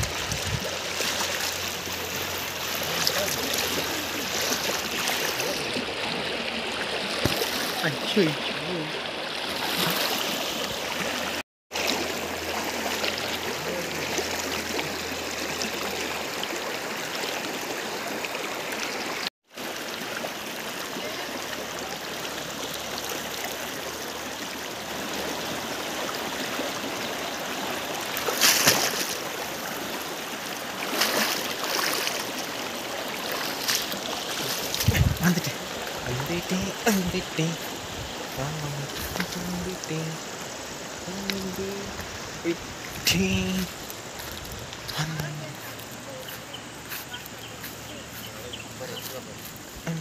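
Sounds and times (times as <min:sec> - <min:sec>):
stream water rushing: 0:00.0 - 0:50.0.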